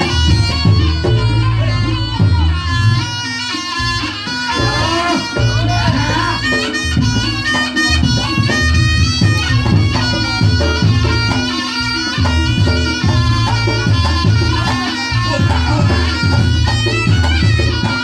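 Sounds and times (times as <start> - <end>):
drum strokes: 0.0 - 18.0
shawm playing melody: 0.0 - 18.0.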